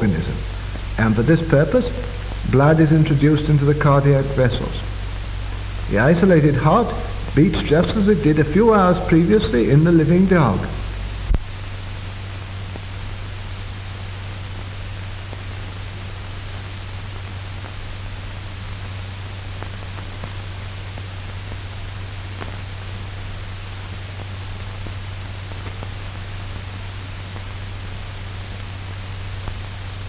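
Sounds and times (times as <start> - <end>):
film soundtrack hiss and hum: 0.0 - 30.0.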